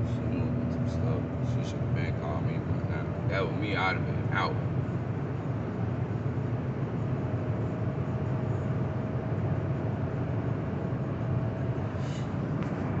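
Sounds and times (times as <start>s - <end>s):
car driving from inside cabin: 0.0s - 13.0s.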